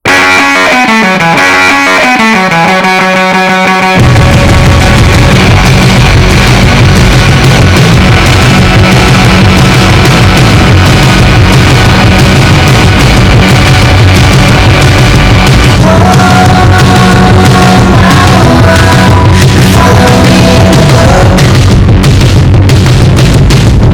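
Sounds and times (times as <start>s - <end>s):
guitar riff stepping down: 0.0s - 23.9s
rock band with drums and bass: 0.0s - 23.9s.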